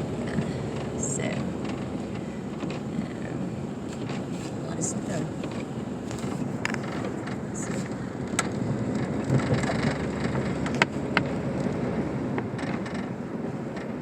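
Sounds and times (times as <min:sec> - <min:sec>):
vehicle rumble from inside cabin: 0:00.0 - 0:14.0.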